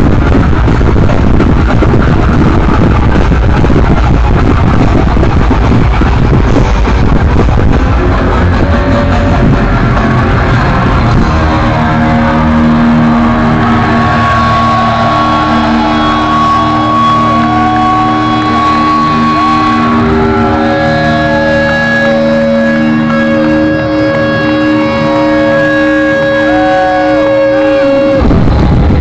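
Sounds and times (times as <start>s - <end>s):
distorted electric guitar bending notes: 0.0s - 29.0s
live heavy metal band: 0.0s - 29.0s.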